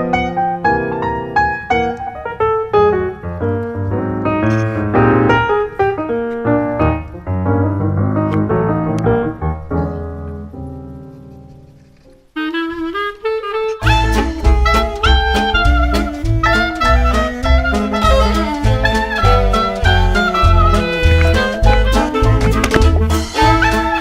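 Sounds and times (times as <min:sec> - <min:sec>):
lively piano tune with bass: 0:00.0 - 0:12.4, 0:13.8 - 0:24.0.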